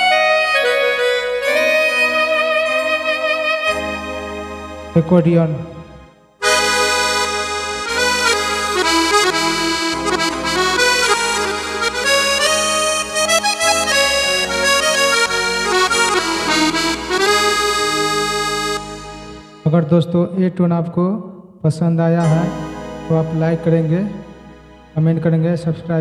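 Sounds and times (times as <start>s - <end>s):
keyboard accordion melody: 0.0s - 20.2s, 22.2s - 26.0s.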